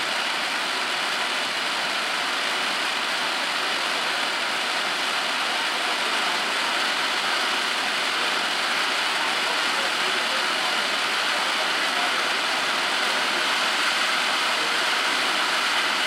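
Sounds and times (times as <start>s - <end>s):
firework fountain hissing: 0.0s - 16.0s.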